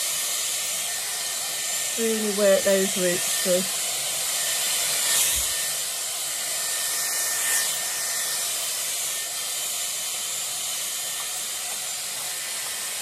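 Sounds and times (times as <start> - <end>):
hair styler blowing air: 0.0 - 13.0.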